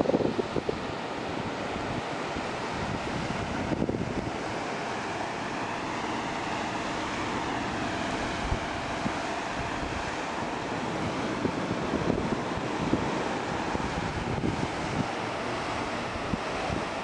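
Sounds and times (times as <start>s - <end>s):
wind on microphone: 0.0s - 4.6s, 7.8s - 17.0s.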